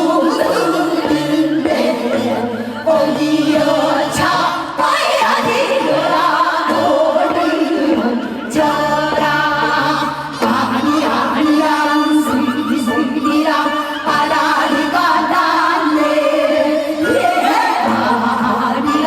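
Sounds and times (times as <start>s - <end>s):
band accompaniment: 0.0s - 19.0s
woman singing: 0.0s - 19.0s.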